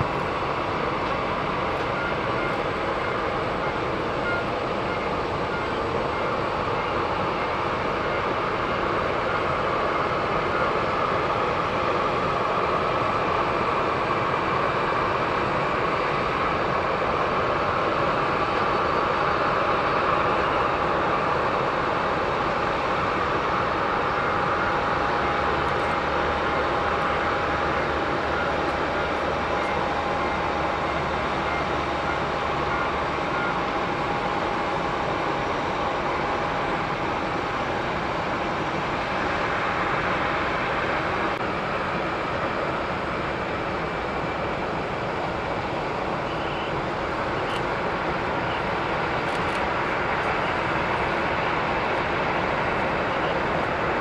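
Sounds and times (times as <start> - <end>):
jet engines rushing hum: 0.0 - 54.0.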